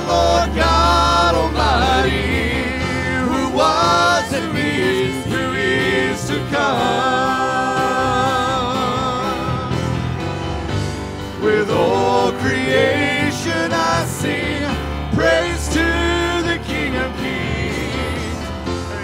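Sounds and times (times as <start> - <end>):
people singing: 0.0 - 10.4, 11.2 - 19.0
keyboard: 0.0 - 19.0.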